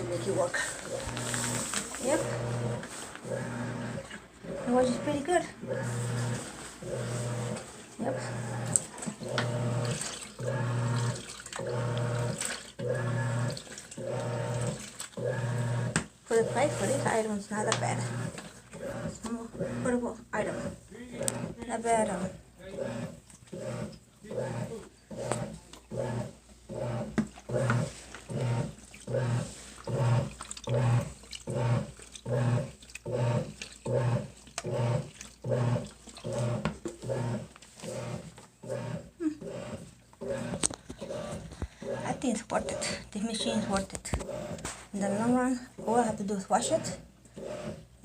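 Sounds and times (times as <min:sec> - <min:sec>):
washing machine motor humming: 0:00.0 - 0:48.0
water sloshing in tub: 0:00.0 - 0:48.0.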